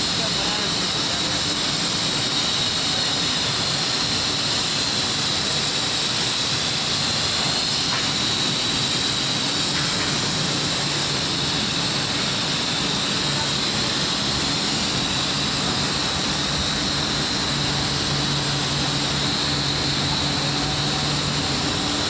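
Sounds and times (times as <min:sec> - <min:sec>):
blast furnace roar: 0:00.0 - 0:22.0
high steady whine: 0:00.0 - 0:22.0.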